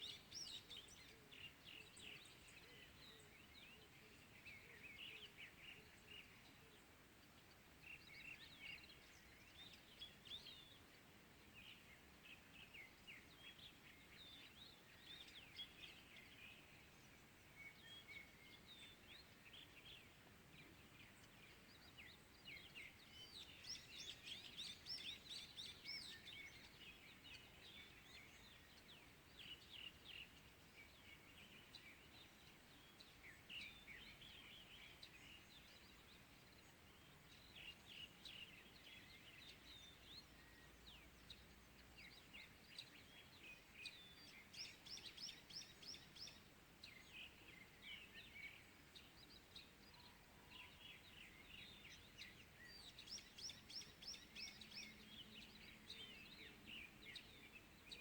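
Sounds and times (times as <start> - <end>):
small birds chirping: 0.0 - 58.0
soft outdoor hiss: 0.0 - 58.0.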